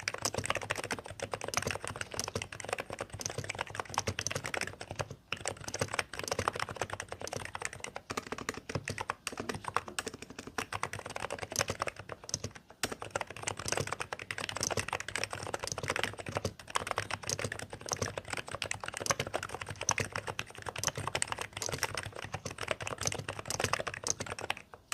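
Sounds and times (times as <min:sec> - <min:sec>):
keyboard typing: 0:00.0 - 0:24.9.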